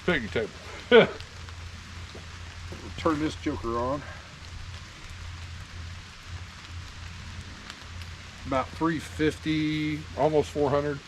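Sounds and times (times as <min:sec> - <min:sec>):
steady low hum: 0:00.0 - 0:11.0
water dripping off trees: 0:00.0 - 0:11.0.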